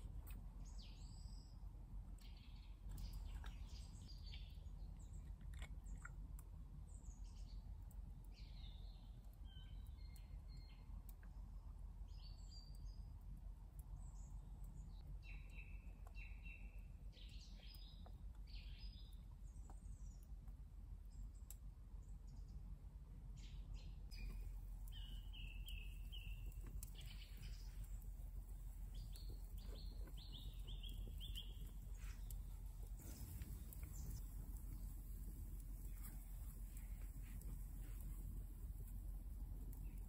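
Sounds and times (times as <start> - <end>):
wood fire crackling: 0.0 - 5.1, 6.2 - 40.0
songbirds chirping: 0.0 - 40.0
low background hiss: 6.3 - 40.0.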